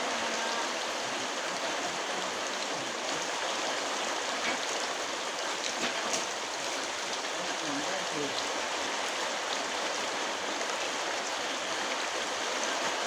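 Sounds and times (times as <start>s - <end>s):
very heavy rain pouring: 0.0s - 13.0s.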